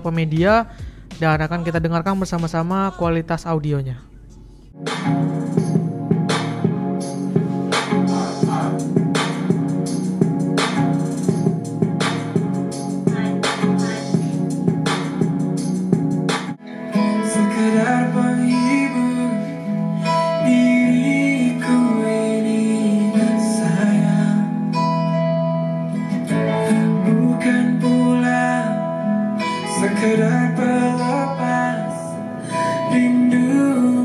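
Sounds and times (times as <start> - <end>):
acoustic guitar music from speaker: 4.8 - 34.0.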